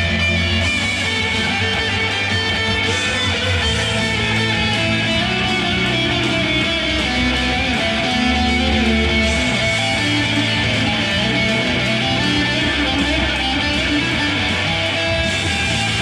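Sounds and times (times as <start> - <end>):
electric guitar chords ringing: 0.0 - 16.0.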